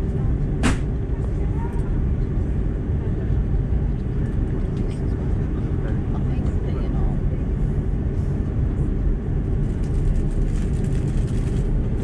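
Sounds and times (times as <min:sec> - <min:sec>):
airliner engines low rumble: 0:00.0 - 0:12.0.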